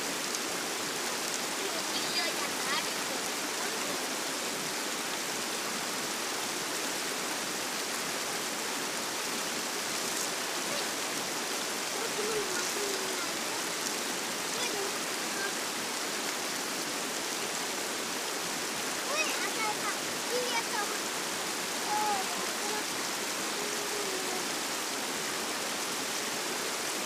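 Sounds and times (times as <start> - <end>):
river water rushing over stones: 0.0 - 27.0.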